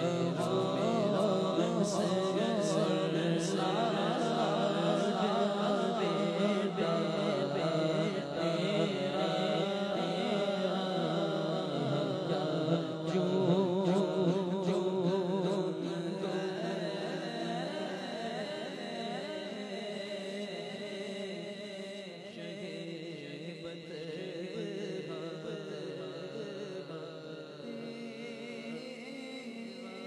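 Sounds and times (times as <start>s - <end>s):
man singing into microphone: 0.0s - 30.0s.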